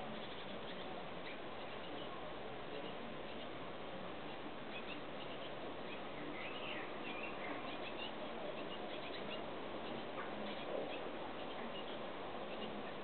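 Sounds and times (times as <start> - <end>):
small birds chirping and twittering: 0.0 - 13.0
steady background hiss: 0.0 - 13.0.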